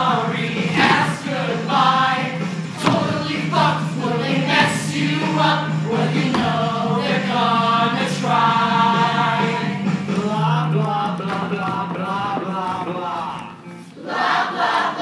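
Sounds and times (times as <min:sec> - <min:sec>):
men and women singing together: 0:00.0 - 0:15.0
musical accompaniment: 0:00.0 - 0:15.0.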